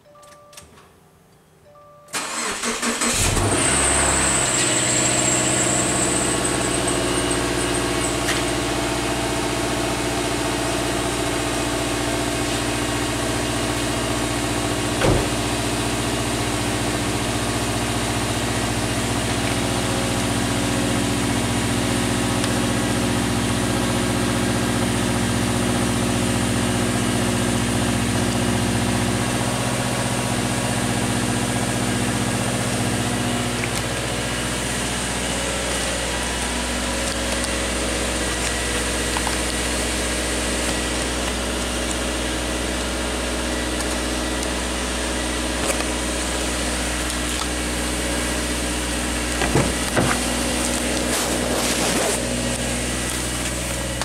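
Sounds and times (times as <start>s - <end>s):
car engine starting and idling: 2.1s - 54.0s.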